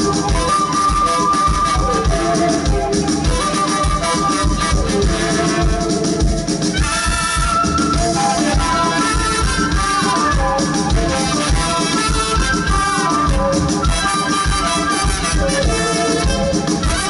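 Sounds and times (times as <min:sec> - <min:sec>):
bass guitar: 0:00.0 - 0:17.0
drums with steady beat: 0:00.0 - 0:17.0
trumpet and trombone melody: 0:00.0 - 0:17.0.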